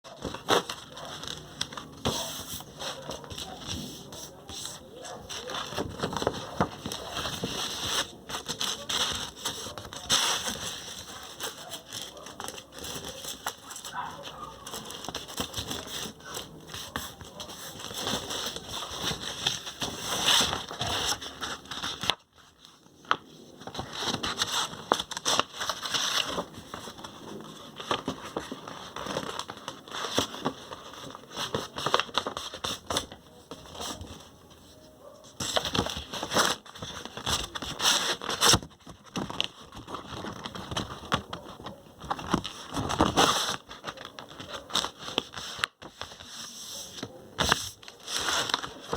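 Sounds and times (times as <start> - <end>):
paper crackling and rustling: 0.0 - 48.9.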